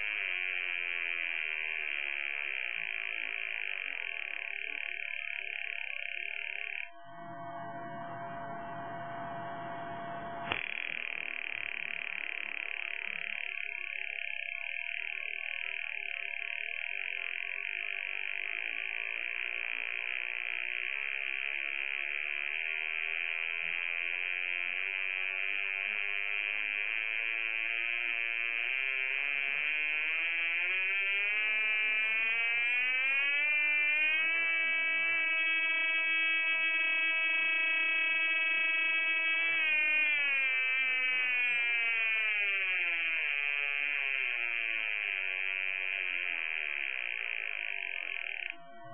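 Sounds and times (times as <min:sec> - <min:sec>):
high buzzing tone: 0:00.0 - 0:48.9.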